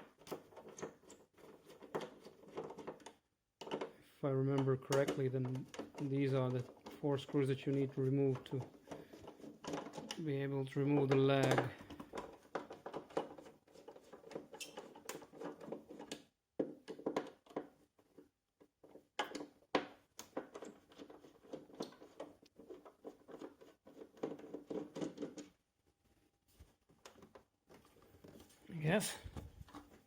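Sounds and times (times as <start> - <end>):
screwdriver clicking and scraping: 0.1 - 3.9, 4.9 - 25.6.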